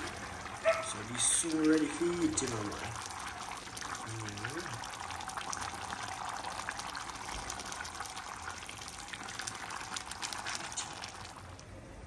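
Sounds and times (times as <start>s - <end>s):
gravy bubbling and popping: 0.0s - 11.9s.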